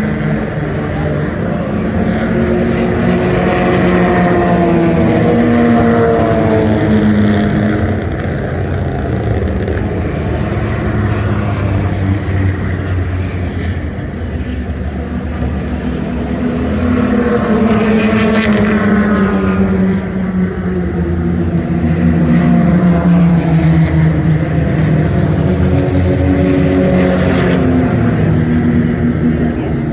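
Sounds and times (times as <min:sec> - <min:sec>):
race car engines passing: 0:00.0 - 0:29.9.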